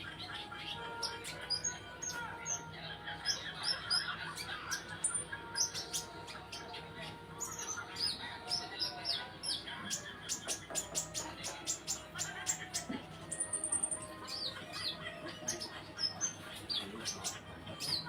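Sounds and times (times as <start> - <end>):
sunbirds chirping and twittering: 0.0 - 18.0.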